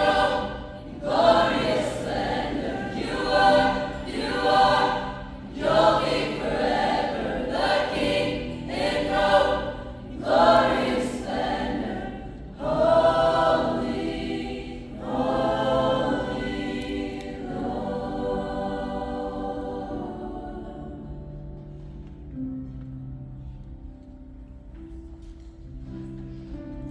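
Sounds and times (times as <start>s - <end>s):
choir singing a worship song: 0.0s - 21.9s.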